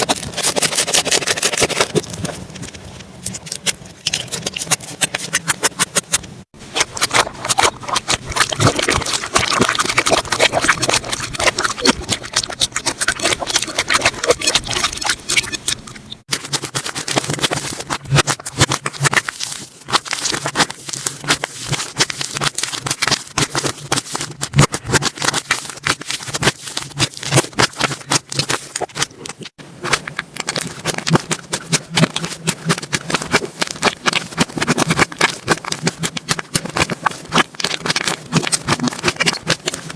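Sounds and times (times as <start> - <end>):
slime squishing and popping: 0.0 - 39.9.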